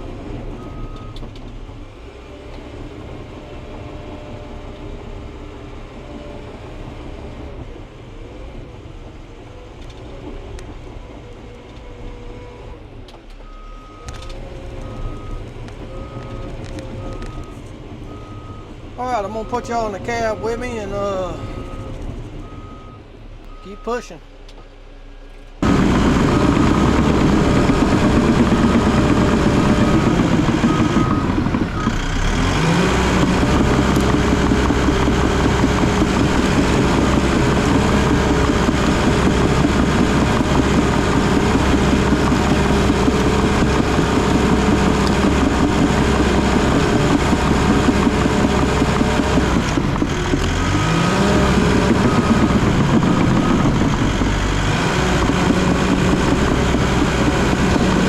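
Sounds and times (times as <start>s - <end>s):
bulldozer diesel engine working: 0.0s - 58.0s.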